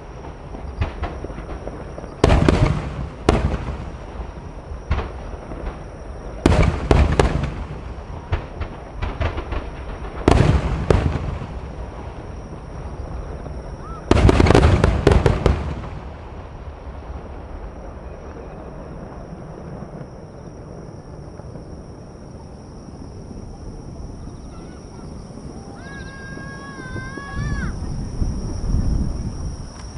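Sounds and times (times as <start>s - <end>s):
firework shells booming: 0.0s - 29.9s.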